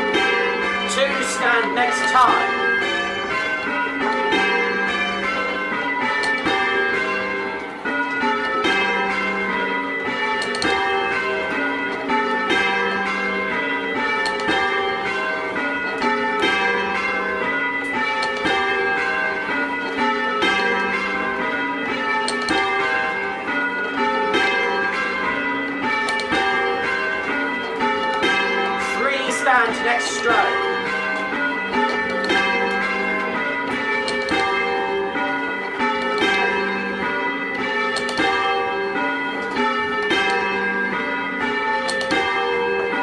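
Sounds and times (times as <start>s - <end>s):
church bells change ringing: 0.0s - 43.0s.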